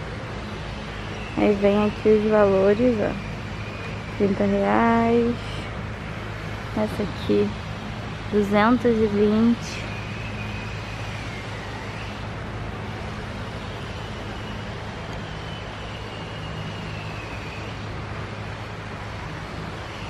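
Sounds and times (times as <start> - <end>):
faint high whine: 0.0 - 20.0
low mechanical hum: 0.0 - 20.0.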